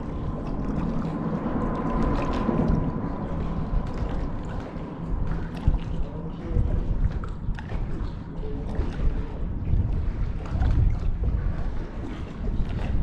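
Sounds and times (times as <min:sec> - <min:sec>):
faint high hum: 0:00.0 - 0:13.0
water lapping against boat hull: 0:00.0 - 0:13.0
wind on microphone: 0:00.0 - 0:13.0.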